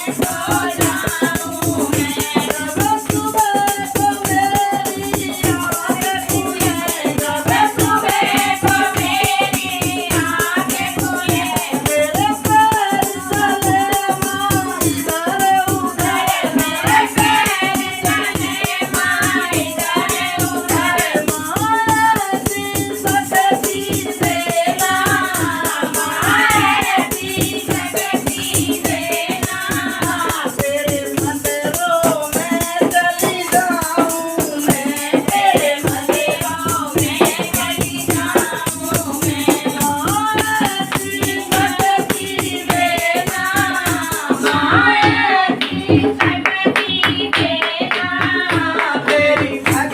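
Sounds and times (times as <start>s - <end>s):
rattling percussion rhythm: 0.0s - 49.9s.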